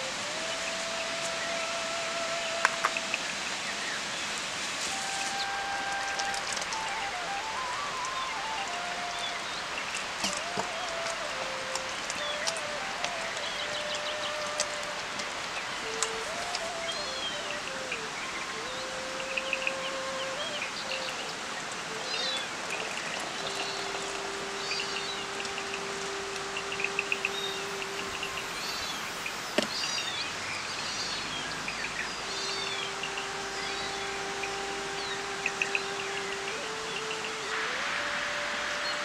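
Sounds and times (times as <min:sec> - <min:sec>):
small birds chirping: 0:00.0 - 0:37.8
faint whistling tone: 0:00.0 - 0:39.0
steady background hiss: 0:00.0 - 0:39.0.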